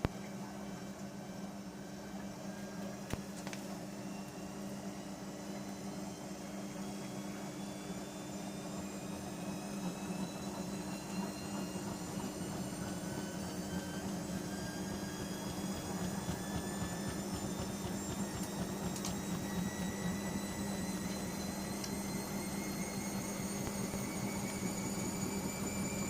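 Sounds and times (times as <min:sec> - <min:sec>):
washing machine motor hum and whine: 0:00.0 - 0:26.0.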